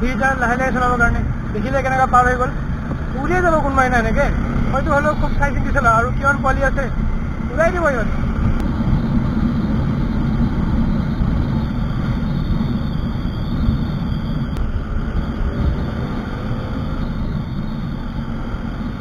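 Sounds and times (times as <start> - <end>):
motorcycle engine and tyre noise: 0.0 - 19.0
wind buffeting microphone: 0.0 - 19.0.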